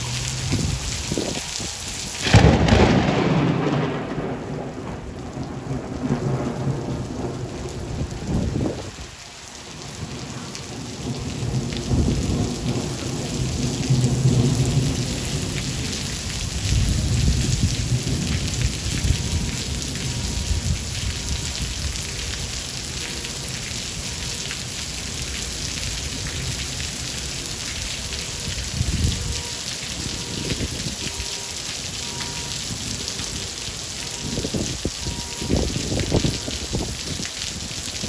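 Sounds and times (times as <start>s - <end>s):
steady rain falling: 0.0s - 38.0s
rolling thunder rumble: 0.3s - 9.1s, 10.0s - 31.2s, 34.1s - 38.0s.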